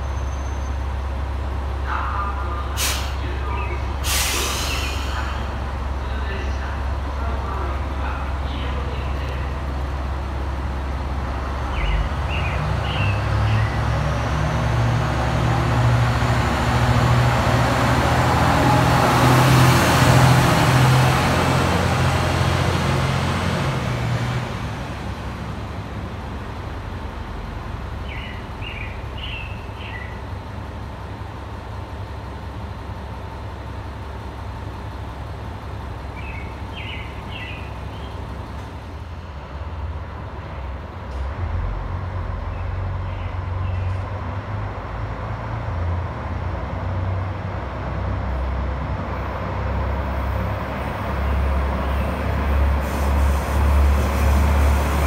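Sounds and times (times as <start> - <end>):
diesel railcar engine running: 0.0 - 55.0.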